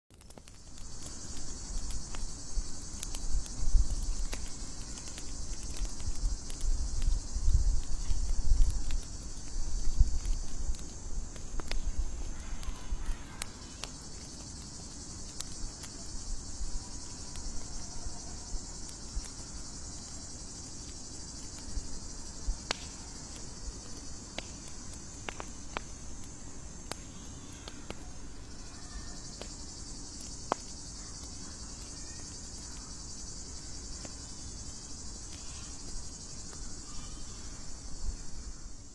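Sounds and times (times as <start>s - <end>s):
campfire crackling and popping: 0.1s - 38.9s
night insects chirping: 0.1s - 38.9s.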